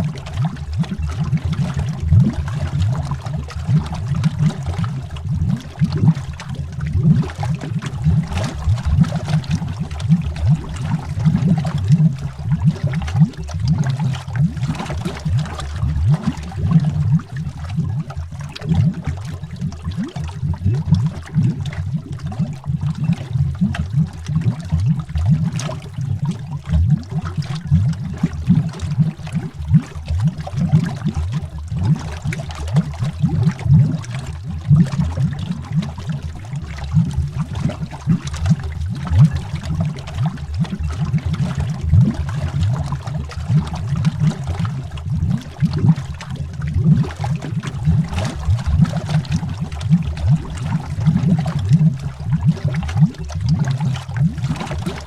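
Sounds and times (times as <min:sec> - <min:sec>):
underwater bubbling: 0:00.0 - 0:55.0.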